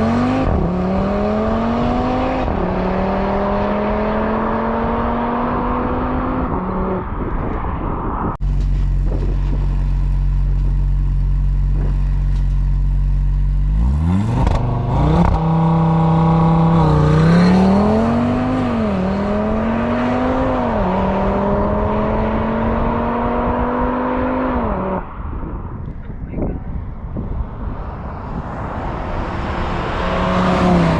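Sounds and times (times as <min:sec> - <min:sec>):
car exhaust accelerating: 0:00.0 - 0:30.9.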